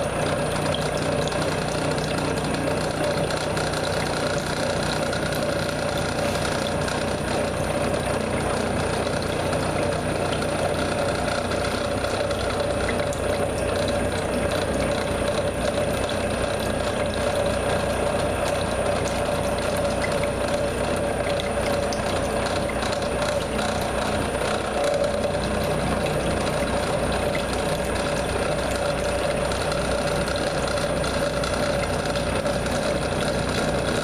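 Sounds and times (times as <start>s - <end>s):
milling machine humming: 0.0s - 34.0s.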